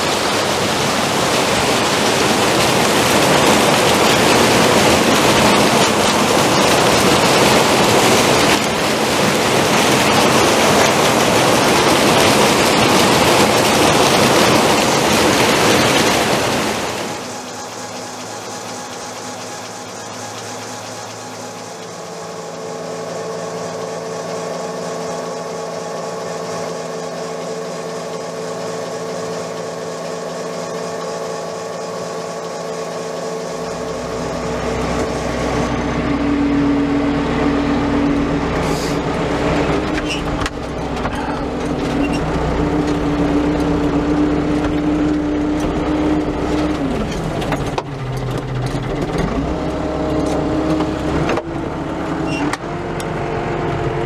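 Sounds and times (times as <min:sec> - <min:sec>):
generator and gearbox humming: 0:00.0 - 0:54.0
tractor engine running: 0:00.0 - 0:54.0.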